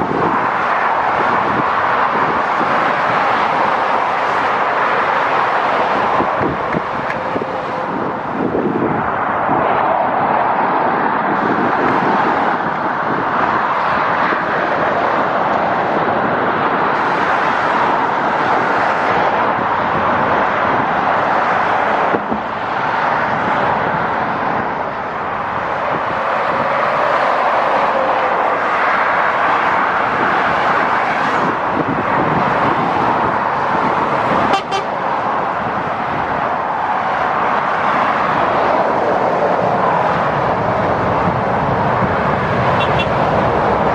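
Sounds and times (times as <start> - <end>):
road traffic rushing: 0.0 - 43.9.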